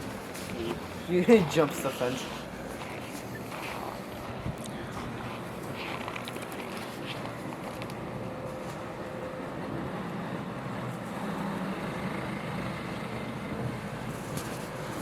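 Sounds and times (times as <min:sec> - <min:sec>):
engine rumble: 0:00.0 - 0:15.0.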